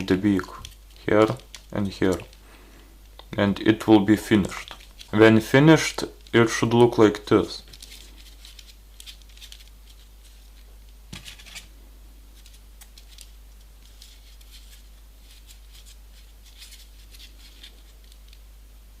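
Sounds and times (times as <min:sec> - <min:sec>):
paper crackling and rustling: 0:00.0 - 0:02.5, 0:03.7 - 0:11.7, 0:12.3 - 0:18.4
steady low hum: 0:00.0 - 0:19.0.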